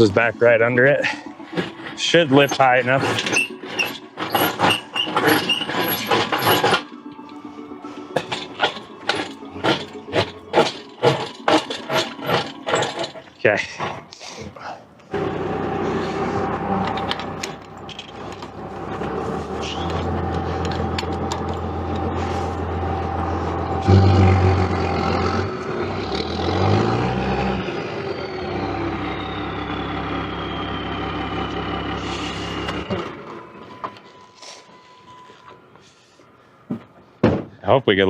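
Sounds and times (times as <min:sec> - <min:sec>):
pickup truck engine running: 0:00.0 - 0:34.3.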